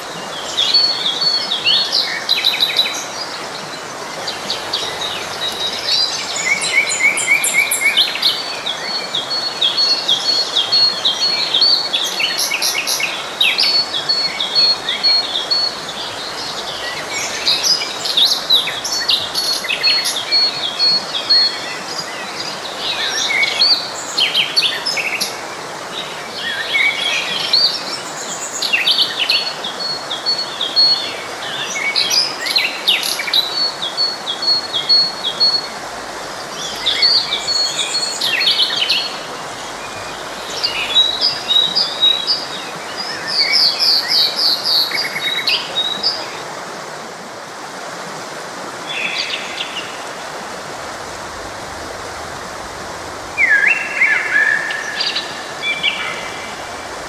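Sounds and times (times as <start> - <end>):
songbirds singing and calling: 0.0 - 46.7, 48.8 - 57.0
forest stream rushing: 0.0 - 57.0.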